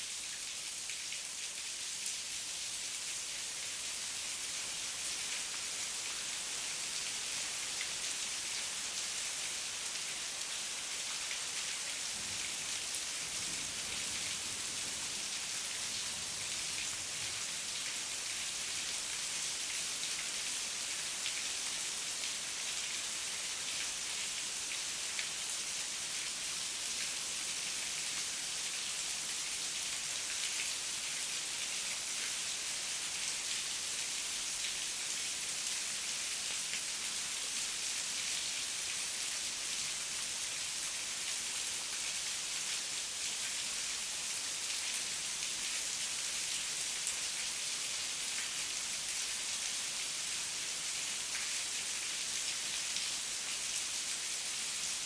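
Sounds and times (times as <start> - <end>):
heavy rain: 0.2 - 55.0.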